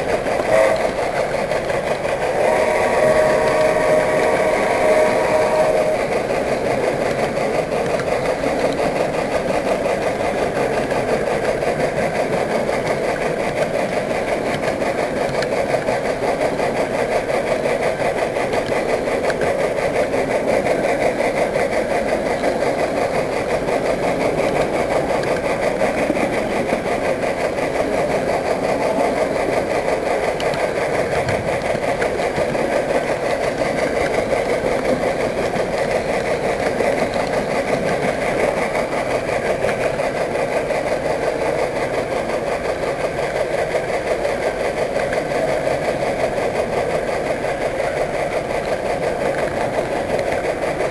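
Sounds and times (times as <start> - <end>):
model train running on track: 0.0 - 50.9.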